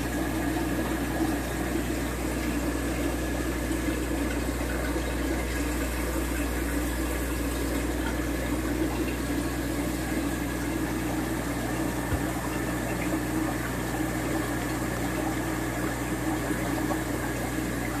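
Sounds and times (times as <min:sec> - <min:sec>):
aquarium filter water flowing: 0:00.0 - 0:18.0.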